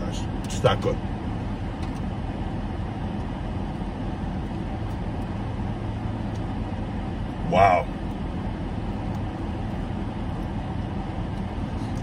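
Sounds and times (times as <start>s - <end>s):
car air conditioning hum: 0.0s - 12.0s
car engine idling: 0.0s - 12.0s.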